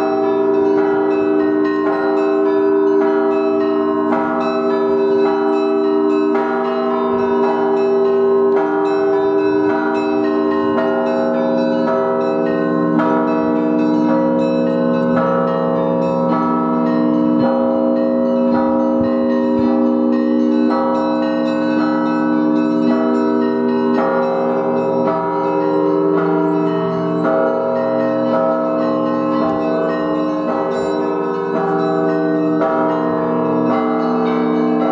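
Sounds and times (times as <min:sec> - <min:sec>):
church bells pealing: 0:00.0 - 0:34.9.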